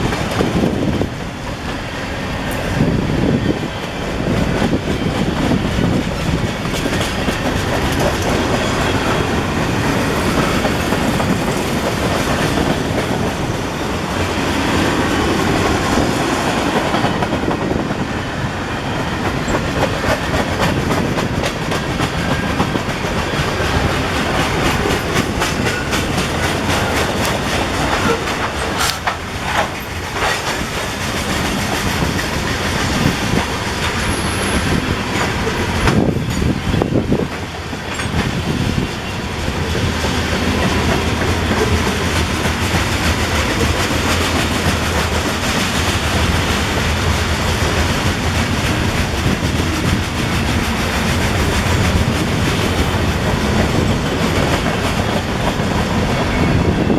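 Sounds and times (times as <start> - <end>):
train wheels clicking over rail joints: 0.0 - 18.0, 18.8 - 56.8
loud train knocks: 0.0 - 56.9
roar of train running gear: 0.0 - 56.9.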